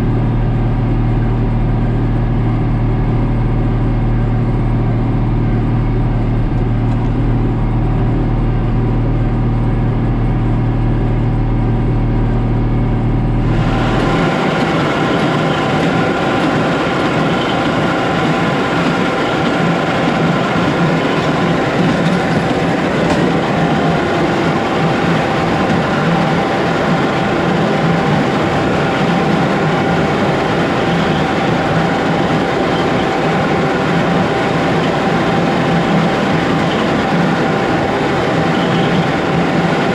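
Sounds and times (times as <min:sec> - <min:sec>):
tractor engine hum: 0:00.0 - 0:39.9.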